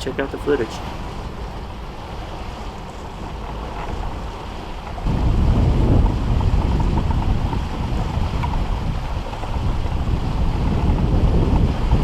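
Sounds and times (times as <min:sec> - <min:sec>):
sea rushing: 0:00.0 - 0:12.0
wind buffeting microphone: 0:00.0 - 0:12.0.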